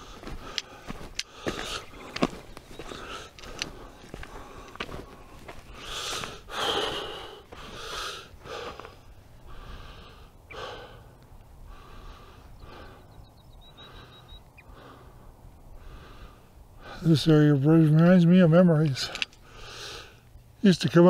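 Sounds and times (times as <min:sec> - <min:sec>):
person breathing hard: 0:00.0 - 0:17.2, 0:19.1 - 0:20.3.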